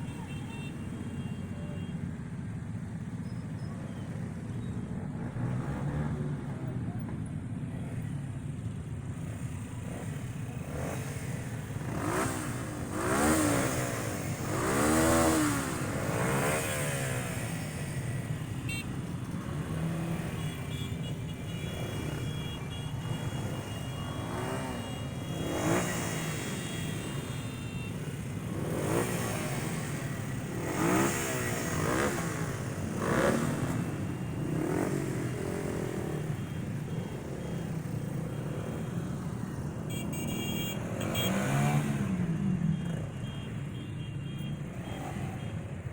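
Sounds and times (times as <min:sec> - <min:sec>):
idling engines rumble: 0:00.0 - 0:45.9
cars and motorcycles revving past: 0:04.8 - 0:06.9, 0:09.1 - 0:43.4, 0:44.4 - 0:45.9.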